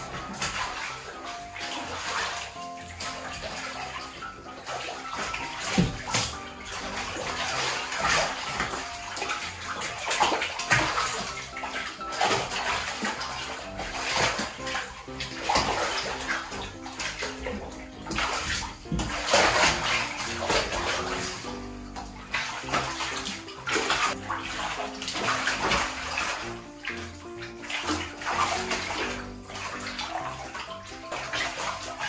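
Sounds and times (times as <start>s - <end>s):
background music: 0.0s - 32.0s
water splashing in tub: 0.0s - 32.0s.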